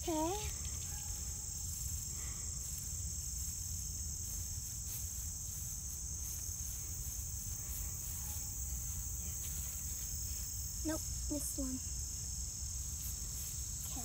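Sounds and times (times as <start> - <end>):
faint rustles in grass: 0.0 - 14.0
insects trilling: 0.0 - 14.0.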